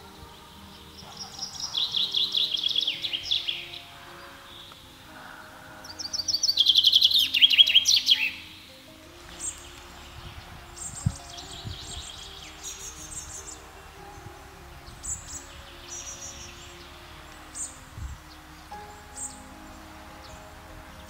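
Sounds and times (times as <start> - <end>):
chaffinch singing: 0.0 - 21.0.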